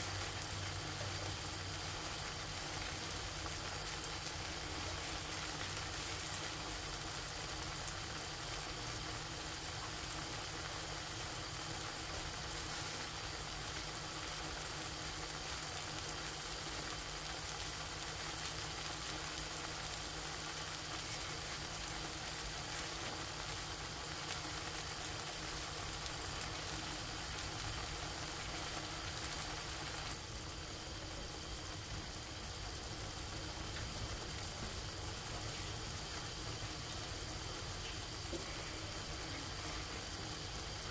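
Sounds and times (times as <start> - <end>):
paella sizzling and bubbling: 0.0 - 40.9.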